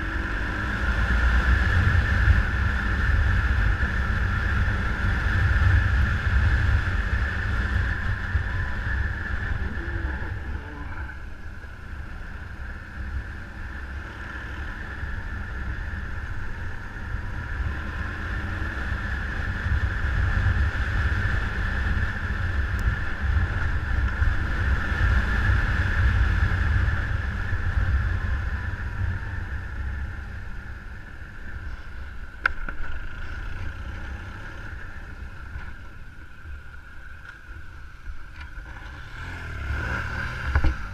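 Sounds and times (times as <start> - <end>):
motorcycle engine running: 0.0 - 40.9
wind rumble on microphone: 0.0 - 40.9.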